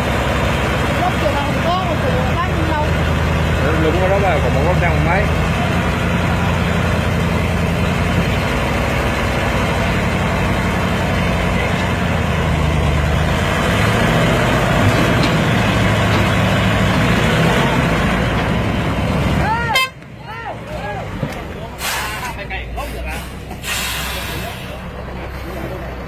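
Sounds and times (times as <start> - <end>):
truck diesel engine labouring: 0.0 - 26.0.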